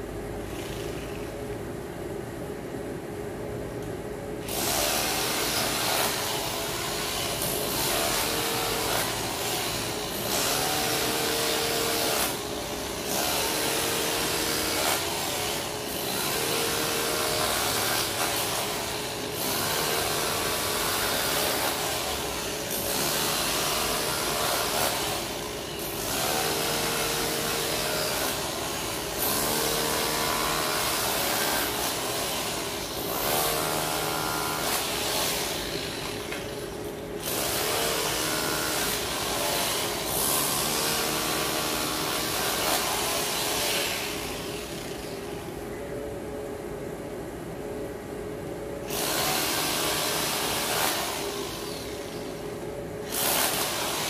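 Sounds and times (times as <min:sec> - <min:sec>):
power cutter cutting road surface: 0:00.5 - 0:01.3, 0:04.4 - 0:36.6, 0:37.2 - 0:45.3, 0:48.9 - 0:52.4, 0:53.0 - 0:54.0.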